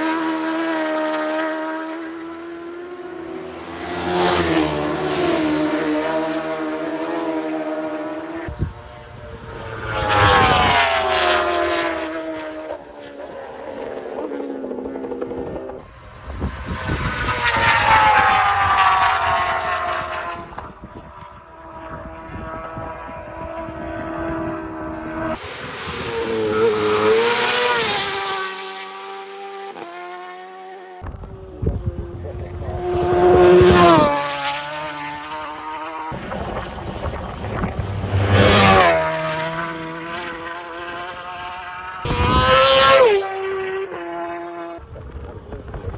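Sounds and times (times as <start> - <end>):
another motorbike engine: 0.0 - 45.9
motorbike passing at speed: 0.0 - 45.9.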